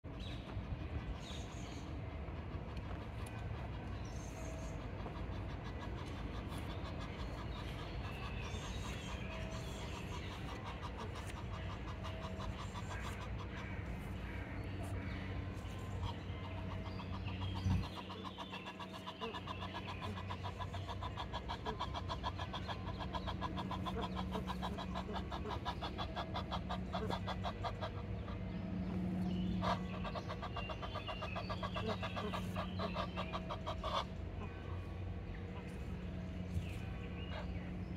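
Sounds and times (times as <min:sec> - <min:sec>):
steady low hum: 0:00.0 - 0:37.9
geese calling: 0:00.1 - 0:37.9.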